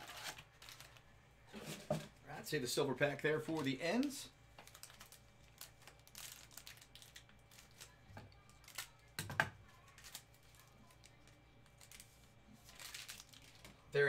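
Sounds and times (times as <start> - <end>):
plastic wrapper crinkling and tearing: 0.0 - 1.1, 3.6 - 14.0.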